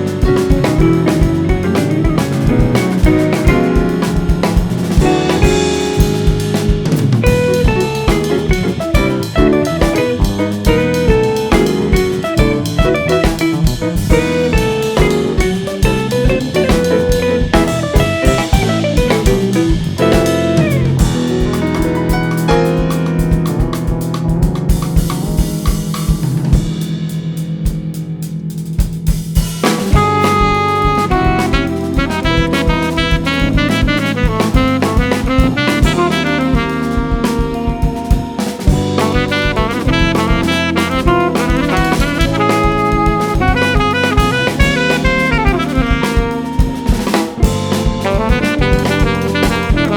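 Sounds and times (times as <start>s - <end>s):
saxophone: 0.0s - 22.6s, 29.8s - 49.9s
bass: 0.0s - 49.9s
drum kit: 0.0s - 49.9s.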